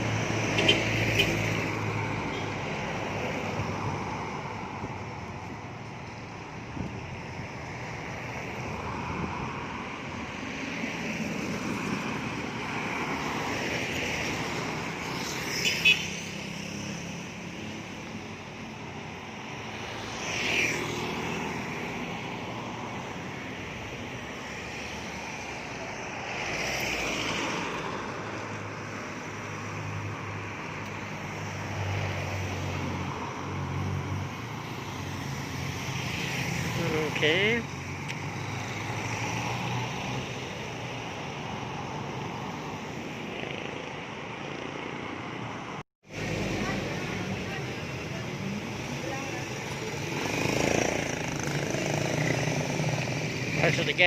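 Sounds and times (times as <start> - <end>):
road and engine noise: 0.0 - 54.0
vehicles passing: 0.0 - 54.0.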